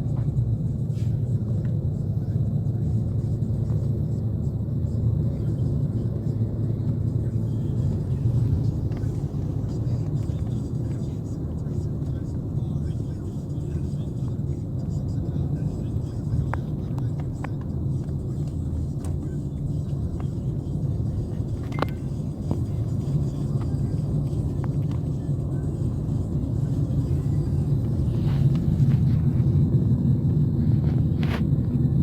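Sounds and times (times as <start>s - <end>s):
low vehicle rumble: 0.0s - 32.0s.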